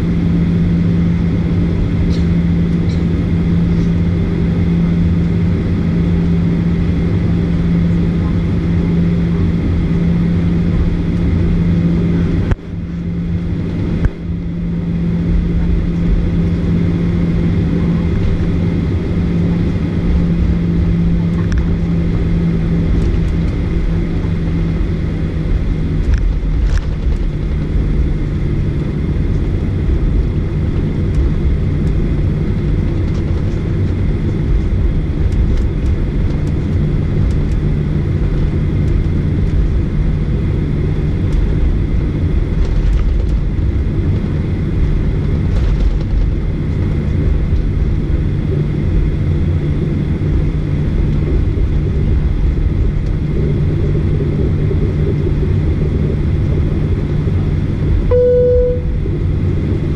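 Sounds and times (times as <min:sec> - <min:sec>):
jet engines droning in cabin: 0:00.0 - 0:59.9.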